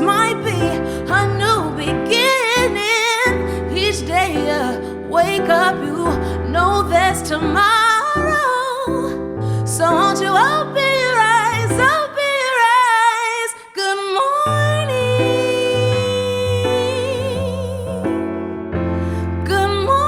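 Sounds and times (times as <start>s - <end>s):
woman singing with vibrato: 0.0s - 18.2s, 19.5s - 20.0s.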